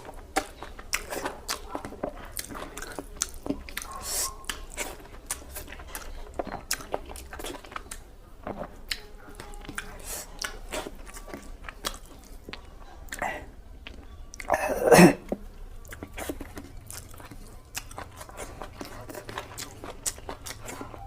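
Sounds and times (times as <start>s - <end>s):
chewing and mouth smacking: 0.0s - 21.0s.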